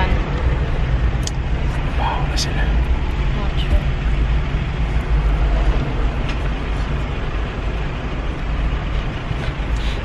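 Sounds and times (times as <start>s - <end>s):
road noise: 0.0s - 10.0s
wind through open car windows: 0.0s - 10.0s.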